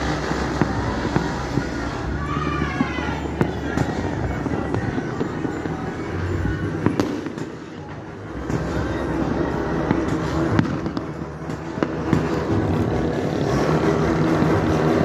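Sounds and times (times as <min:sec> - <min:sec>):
motorcycle engines running: 0:00.0 - 0:15.0.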